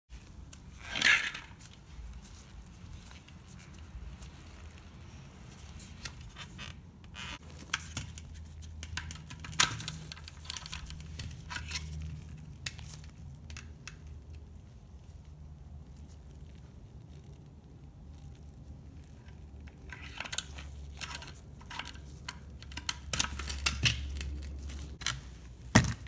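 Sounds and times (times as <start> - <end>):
plastic rustling and scraping: 0.1 - 26.0.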